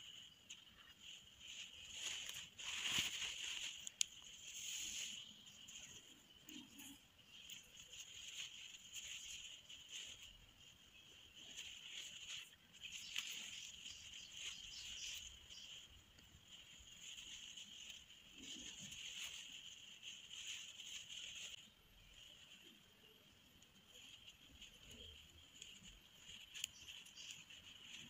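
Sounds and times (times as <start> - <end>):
thread rustling through fabric: 0.0 - 28.0.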